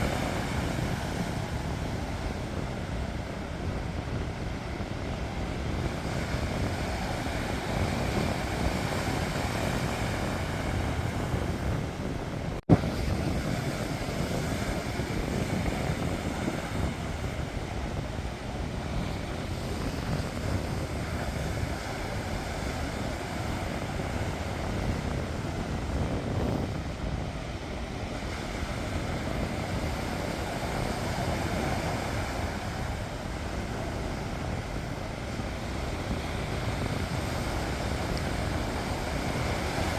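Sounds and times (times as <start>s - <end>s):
low wind rumble on microphone: 0.0s - 39.9s
sea waves washing on shore: 0.0s - 39.9s.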